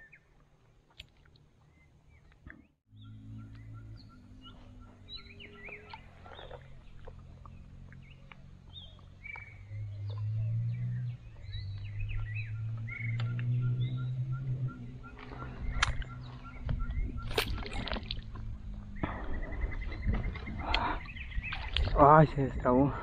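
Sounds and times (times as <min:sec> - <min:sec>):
birds chirping and whistling: 0:01.6 - 0:23.0.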